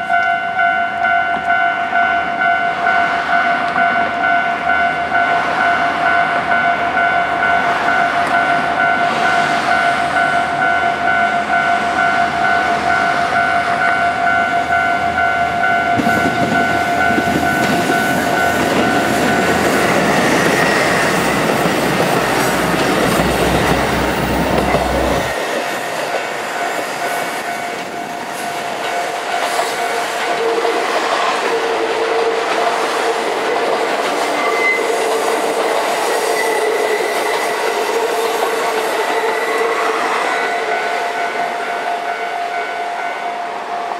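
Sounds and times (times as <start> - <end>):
crossing warning bell ringing: 0.0 - 43.9
diesel train passing: 0.0 - 43.9.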